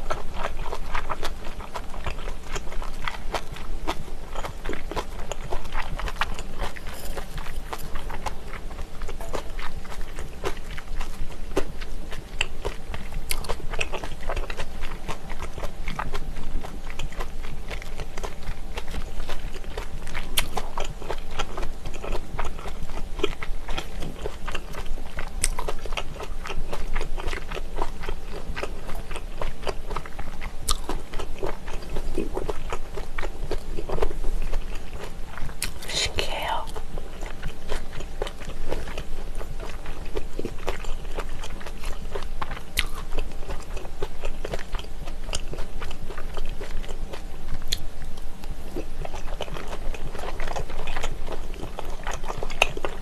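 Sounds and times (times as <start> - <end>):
wet chewing and mouth clicks: 0.0 - 53.0.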